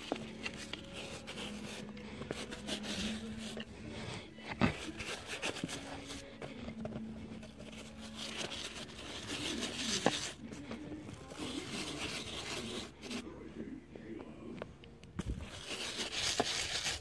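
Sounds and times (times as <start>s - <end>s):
brush scrubbing rubber tires: 0.0s - 13.3s, 15.2s - 17.0s.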